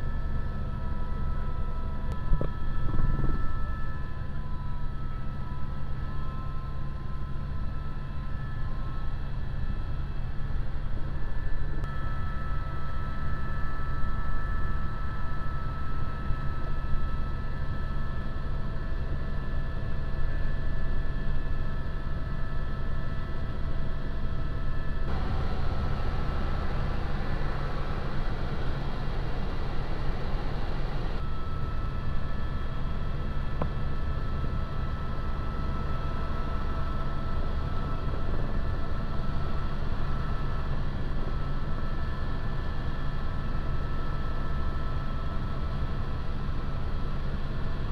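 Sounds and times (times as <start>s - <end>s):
helicopter rotor rumble: 0.0s - 47.9s
high turbine whine: 0.0s - 47.9s.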